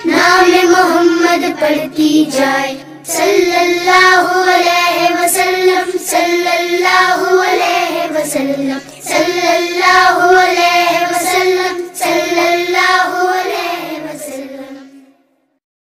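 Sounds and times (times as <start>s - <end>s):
child singing: 0.0s - 15.2s.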